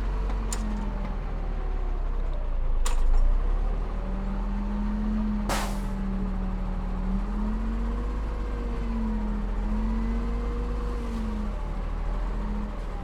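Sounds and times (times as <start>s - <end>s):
diesel machinery engine running: 0.0s - 13.0s.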